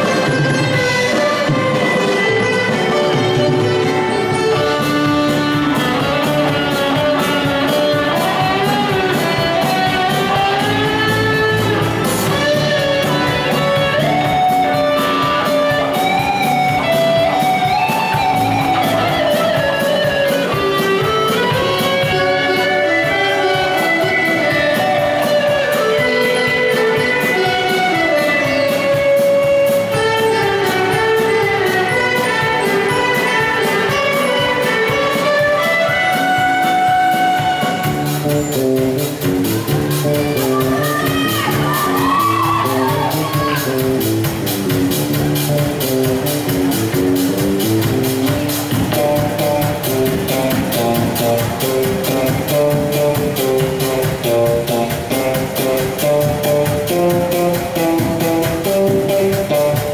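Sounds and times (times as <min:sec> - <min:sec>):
orchestra playing: 0:00.0 - 0:59.9.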